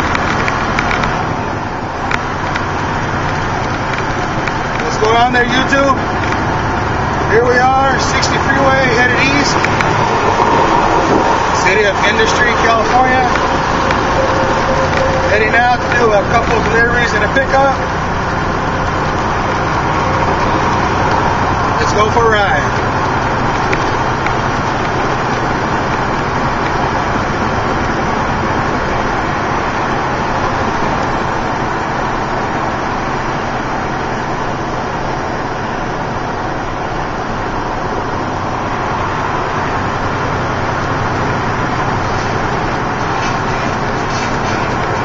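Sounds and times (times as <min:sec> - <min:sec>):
truck engine drone: 0:00.0 - 0:45.0
tyre and road noise: 0:00.0 - 0:45.0.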